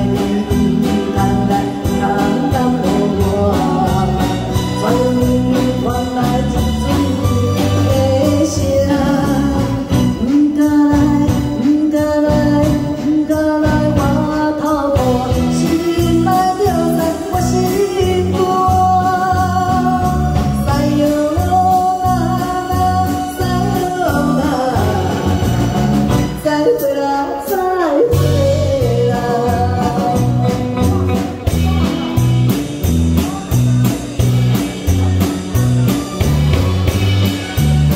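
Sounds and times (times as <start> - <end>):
woman singing into microphone: 0.0 - 25.5, 26.2 - 31.5
band with guitar and keyboard: 0.0 - 37.9.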